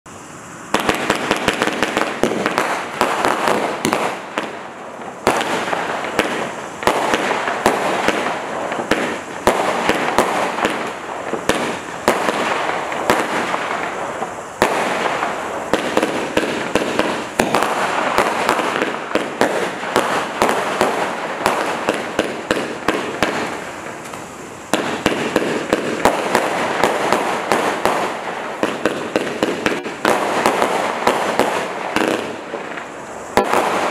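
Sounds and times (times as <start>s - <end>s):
firework cake firing: 0.1s - 33.9s
firework crackle: 0.1s - 33.9s.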